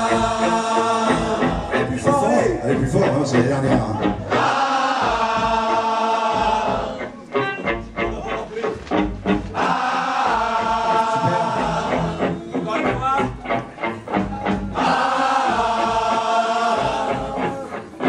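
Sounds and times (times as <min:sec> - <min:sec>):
bass guitar: 0:00.0 - 0:05.7, 0:06.3 - 0:09.7, 0:10.3 - 0:16.2, 0:16.8 - 0:18.0
drums: 0:00.0 - 0:18.0.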